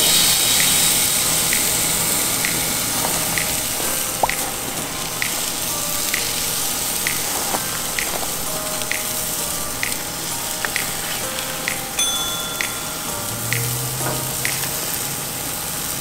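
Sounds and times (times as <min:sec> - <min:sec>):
background music with beat: 0:00.0 - 0:16.0
food sizzling on griddle: 0:00.0 - 0:16.0.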